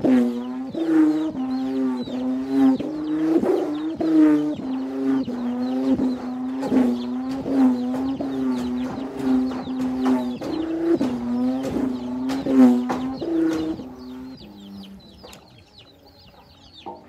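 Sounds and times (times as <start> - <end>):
whirled kite hummer buzzing: 0.0 - 16.8.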